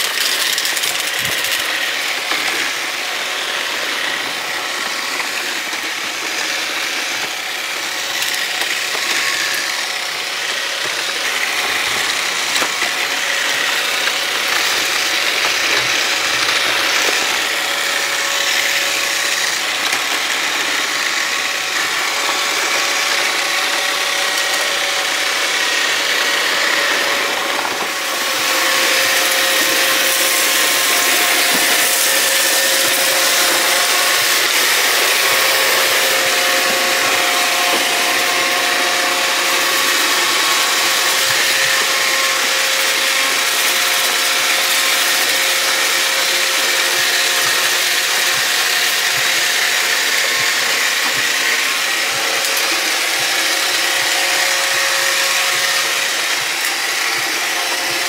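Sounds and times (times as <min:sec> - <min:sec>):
robot vacuum whirring on concrete: 0:00.0 - 0:58.0
whining tones: 0:00.0 - 0:58.0.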